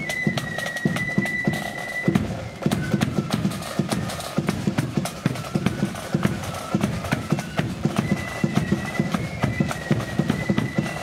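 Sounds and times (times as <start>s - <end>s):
marching band melody: 0.0s - 11.0s
steady drum beat: 0.0s - 11.0s.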